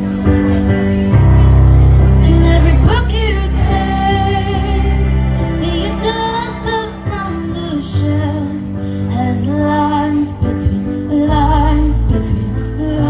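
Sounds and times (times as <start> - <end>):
live band playing: 0.0 - 13.0
woman singing: 2.2 - 13.0.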